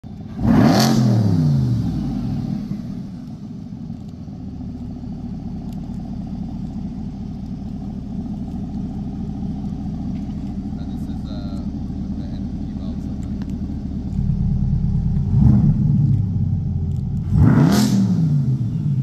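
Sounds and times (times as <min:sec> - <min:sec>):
car engine starting and idling: 0:00.0 - 0:19.0.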